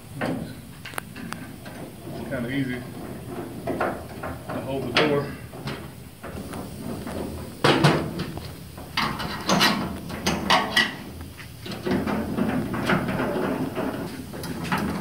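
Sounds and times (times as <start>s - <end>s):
metal scraping and rubbing: 1.1s - 15.0s.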